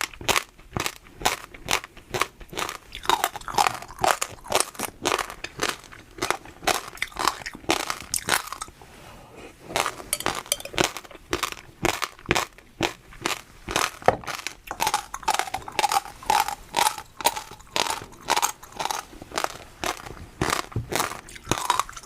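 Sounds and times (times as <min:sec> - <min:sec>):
chewing crunchy food: 0:00.0 - 0:08.8, 0:09.6 - 0:22.0.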